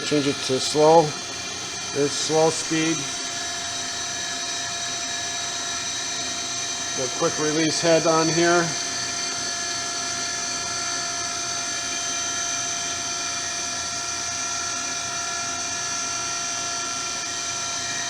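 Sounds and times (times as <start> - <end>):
grinder machine whining: 0.0 - 18.0.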